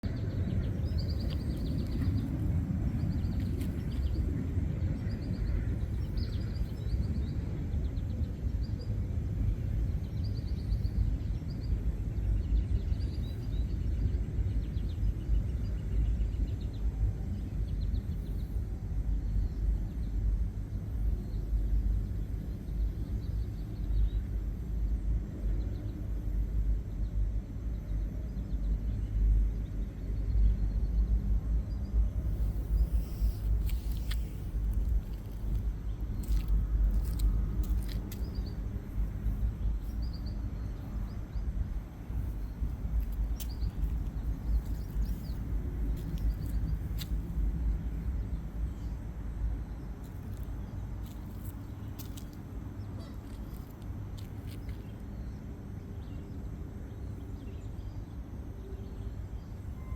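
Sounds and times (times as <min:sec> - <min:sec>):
wind rumbling on microphone: 0:00.0 - 0:55.8.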